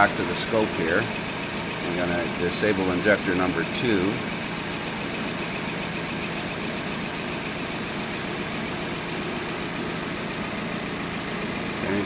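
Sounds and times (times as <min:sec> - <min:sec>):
car engine idling with a miss: 0:00.0 - 0:12.0.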